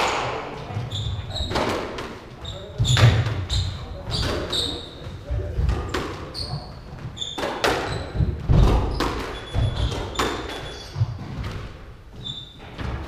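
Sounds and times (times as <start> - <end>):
squash ball hits echoing: 0.0 - 11.8
shoes squeaking on wooden floor: 0.6 - 13.0.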